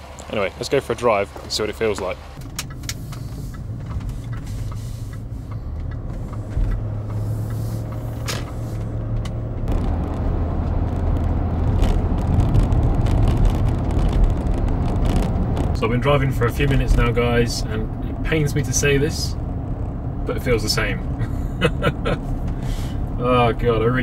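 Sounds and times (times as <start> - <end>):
car engine and tyre hum: 0.0 - 24.0.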